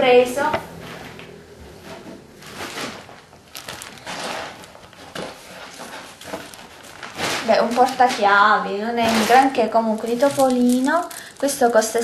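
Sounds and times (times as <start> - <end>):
shopping bag rustling: 0.4 - 12.0.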